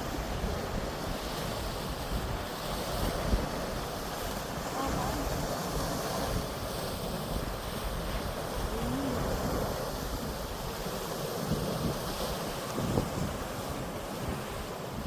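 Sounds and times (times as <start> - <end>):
sea waves washing on shore: 0.0 - 15.0
wind buffeting microphone: 0.0 - 15.0.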